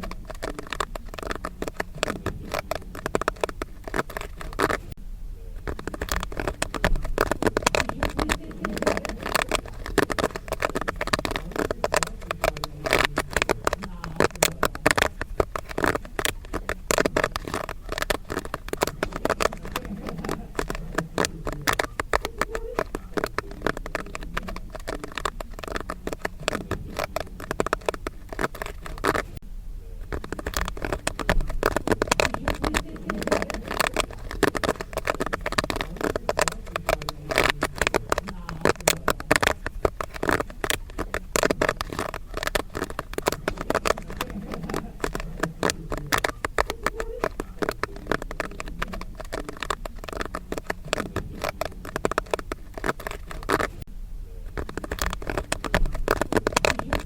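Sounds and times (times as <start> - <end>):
popcorn popping: 0.0 - 57.0.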